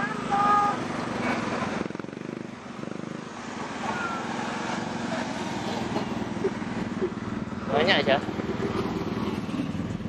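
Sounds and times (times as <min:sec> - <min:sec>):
truck engine drone passing: 0:00.0 - 0:10.0.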